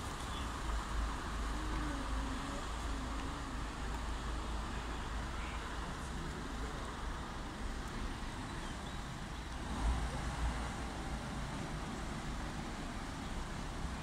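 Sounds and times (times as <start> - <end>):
heavy truck engines rumbling: 0.0 - 14.0.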